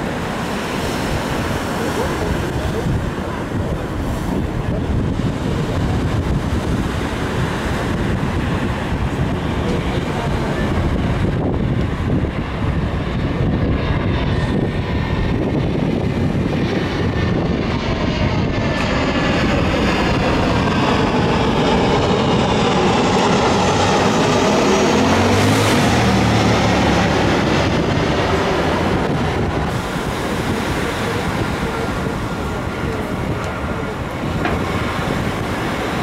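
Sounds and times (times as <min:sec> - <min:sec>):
jet airliner passing overhead: 0:00.0 - 0:36.0
engine whine gliding down: 0:04.4 - 0:36.0.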